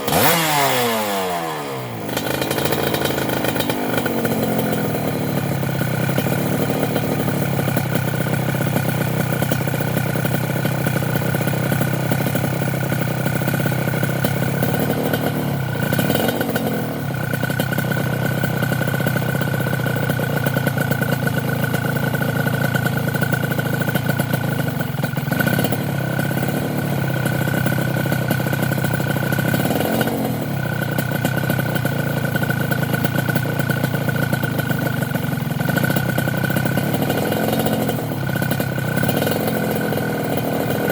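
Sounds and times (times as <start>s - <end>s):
engine throttle blips: 0.0s - 40.9s
motorcycle engine idling: 0.0s - 40.9s.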